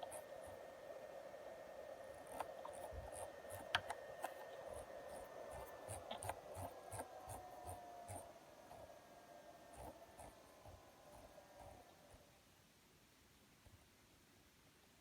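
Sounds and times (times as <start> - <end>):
cooling fan whine: 0.0 - 14.6.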